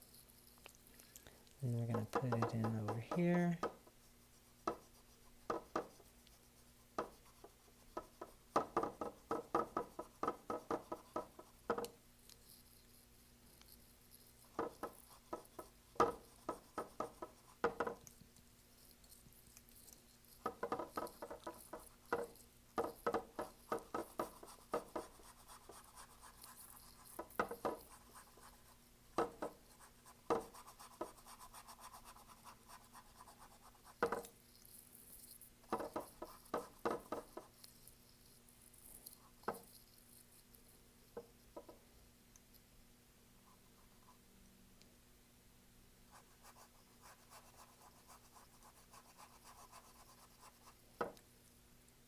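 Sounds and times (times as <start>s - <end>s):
paintbrush scratching on canvas: 1.8s - 18.1s, 18.7s - 41.8s, 46.1s - 50.8s.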